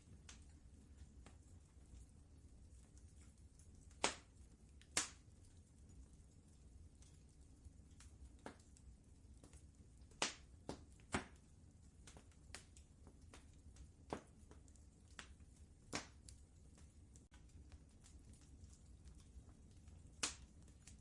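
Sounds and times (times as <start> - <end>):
fire crackling in fireplace: 0.0 - 21.0
low steady rumble: 0.0 - 21.0.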